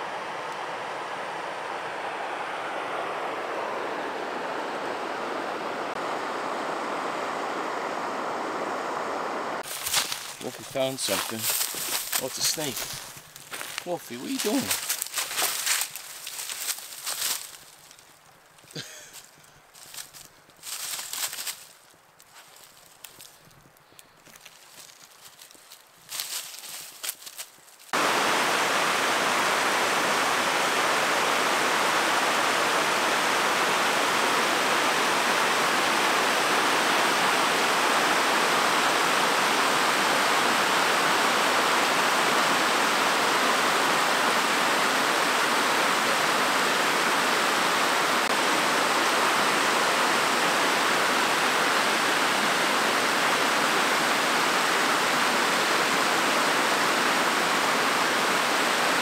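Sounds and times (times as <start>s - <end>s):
rushing water: 0.0s - 17.8s, 27.9s - 59.0s.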